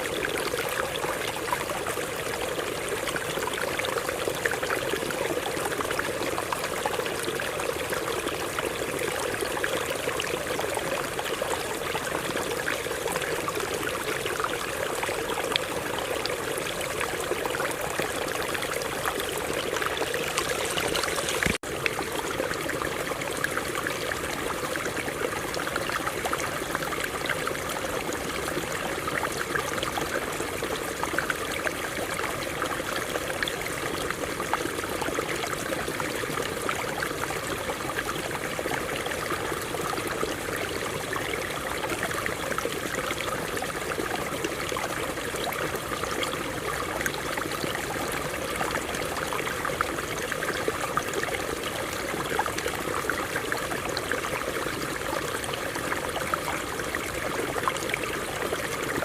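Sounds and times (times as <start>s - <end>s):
water babbling over rocks: 0.0s - 59.0s.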